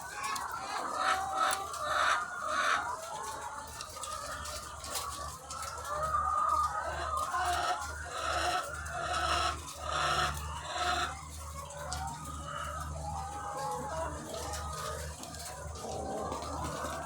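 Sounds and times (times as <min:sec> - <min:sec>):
hens clucking and calling: 0:00.0 - 0:17.0.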